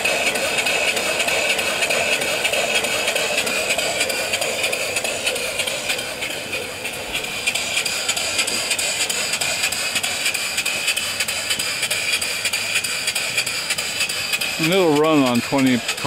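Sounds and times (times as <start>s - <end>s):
steam engine exhaust beat: 0.0s - 16.0s
steam hissing: 0.0s - 16.0s.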